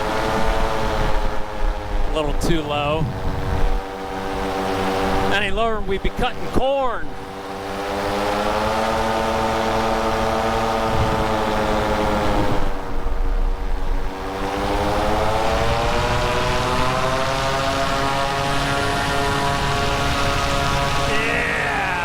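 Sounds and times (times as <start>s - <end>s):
paramotor engine and propeller: 0.0s - 22.0s.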